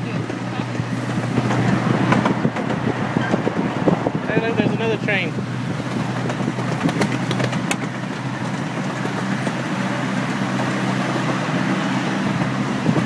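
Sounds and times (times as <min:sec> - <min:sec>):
ride train rumbling on tracks: 0:00.0 - 0:13.0.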